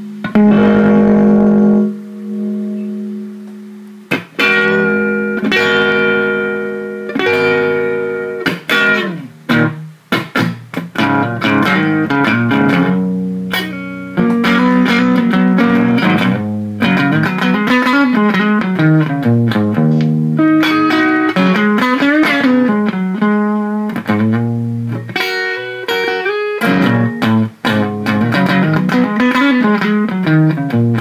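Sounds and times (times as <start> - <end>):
electric guitar playing: 0.0 - 31.0.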